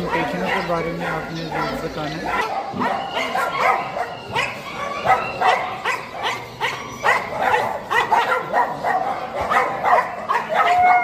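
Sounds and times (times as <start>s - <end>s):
chorus of caged animal calls: 0.0s - 11.0s.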